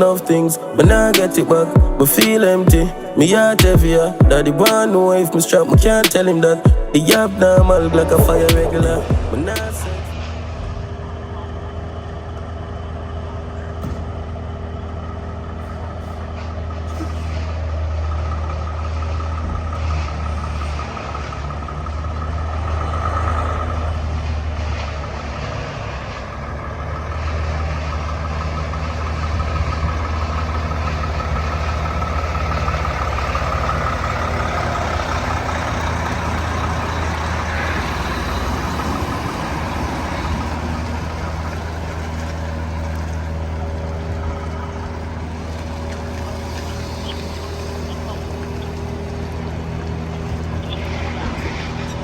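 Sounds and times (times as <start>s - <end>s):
truck diesel engine droning: 0.0s - 52.0s.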